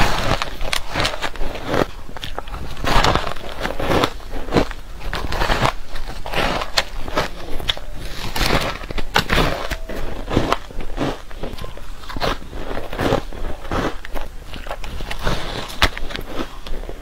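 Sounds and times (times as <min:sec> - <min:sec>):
person chewing shaved ice: 0:00.0 - 0:17.0.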